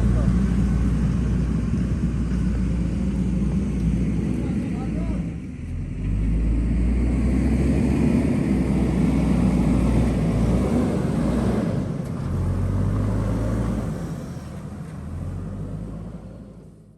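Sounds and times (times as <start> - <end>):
backhoe diesel engine running: 0.0 - 16.9.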